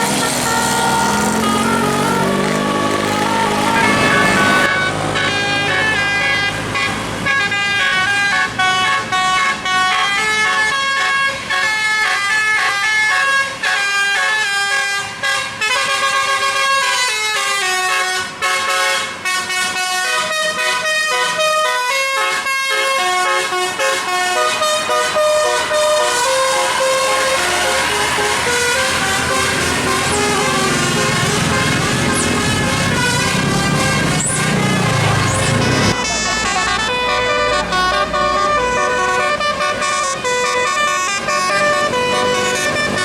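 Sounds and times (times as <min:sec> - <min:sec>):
musical air horns playing tune: 0:00.0 - 0:43.0.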